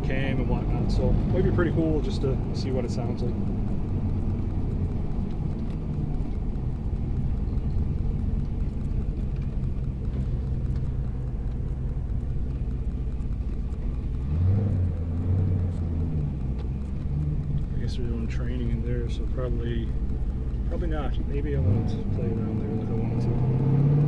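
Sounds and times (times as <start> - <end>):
car engine low exhaust drone: 0.0 - 24.0.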